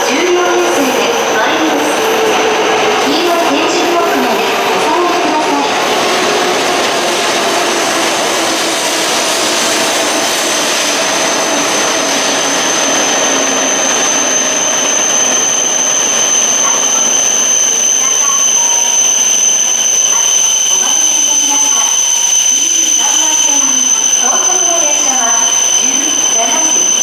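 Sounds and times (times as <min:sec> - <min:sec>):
thin high train whine: 0:00.0 - 0:27.0
train cars rushing past: 0:00.0 - 0:27.0.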